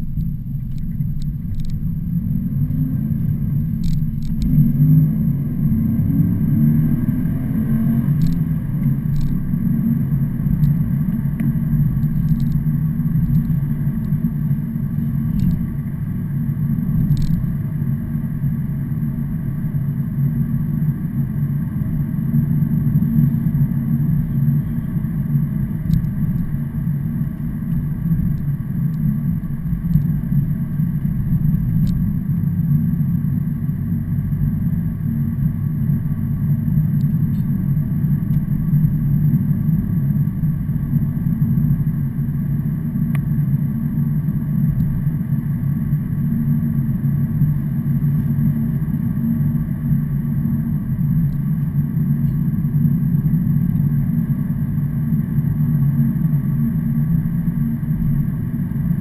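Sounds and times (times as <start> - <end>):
vehicle engine running steadily: 0.0 - 59.0.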